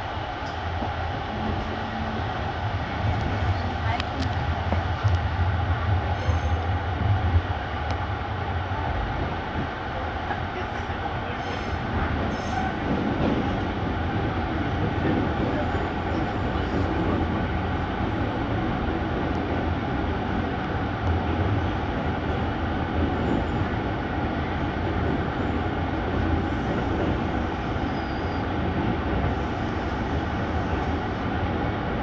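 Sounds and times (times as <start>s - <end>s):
train wheels on rails: 0.0s - 32.0s.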